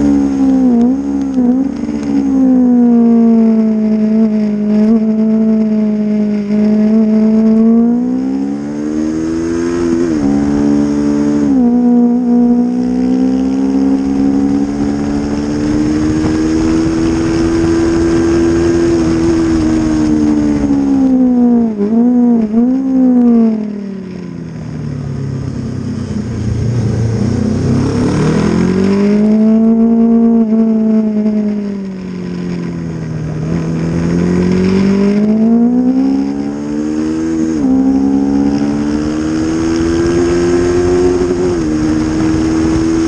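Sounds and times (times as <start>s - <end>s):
motorcycle engine at speed: 0.0s - 43.0s.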